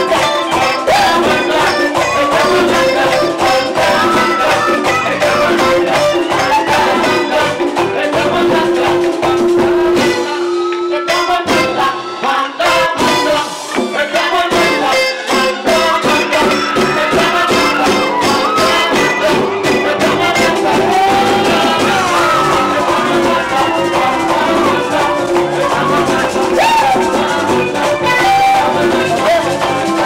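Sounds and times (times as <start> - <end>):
congas: 0.0 - 30.0
electric guitar: 0.0 - 30.0
live merengue band playing: 0.0 - 30.0.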